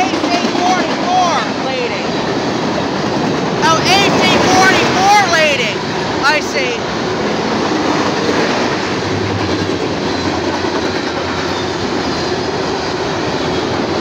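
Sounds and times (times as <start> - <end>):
steel wheels running on rails: 0.0 - 14.0.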